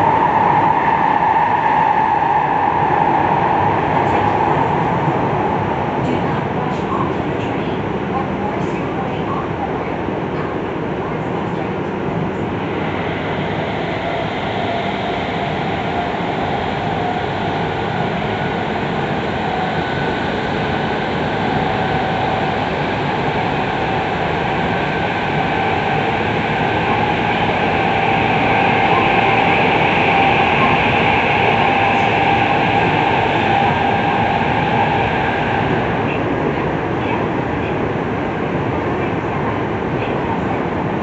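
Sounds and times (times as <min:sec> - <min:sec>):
train wheel and motor noise: 0:00.0 - 0:41.0.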